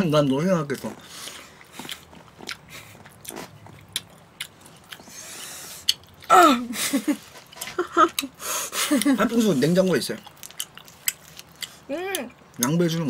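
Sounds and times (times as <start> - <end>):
chewing: 0.2 - 6.3, 7.1 - 12.8.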